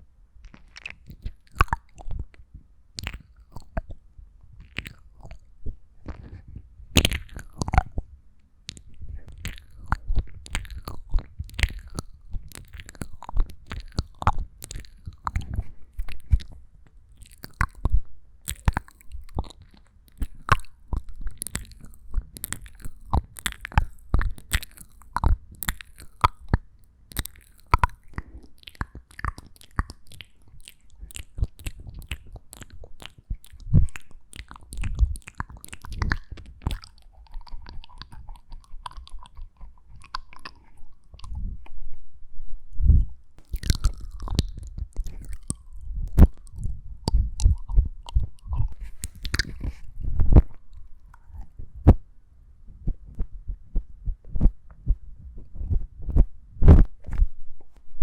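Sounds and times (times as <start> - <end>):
wet mouth clicks and smacks: 0.4 - 4.0, 4.6 - 41.8, 43.4 - 52.0.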